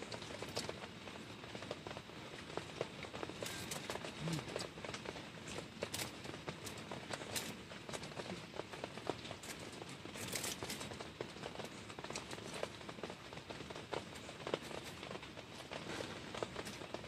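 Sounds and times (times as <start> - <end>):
rain falling: 0.0 - 17.0
raindrops tapping: 0.0 - 17.0.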